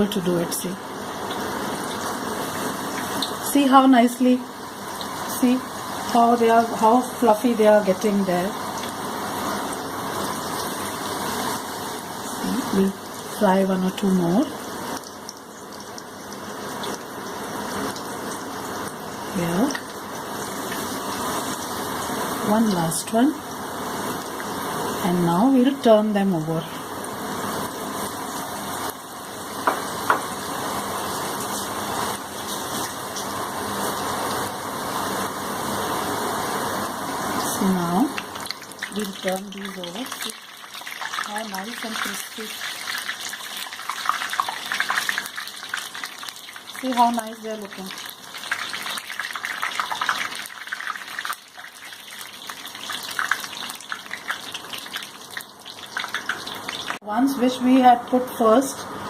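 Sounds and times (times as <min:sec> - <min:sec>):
leaves deep-frying in hot oil: 0:00.0 - 0:59.0.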